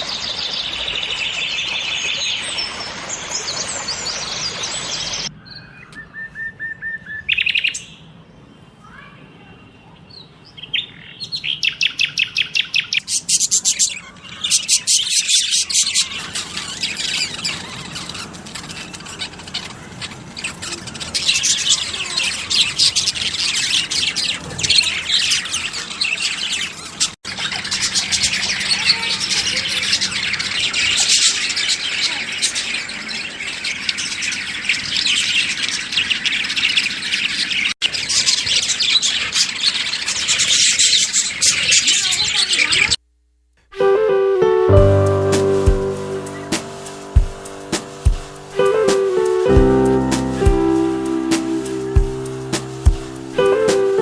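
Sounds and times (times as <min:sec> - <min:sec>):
small birds chirping: 0:00.0 - 0:43.0, 0:44.7 - 0:54.0.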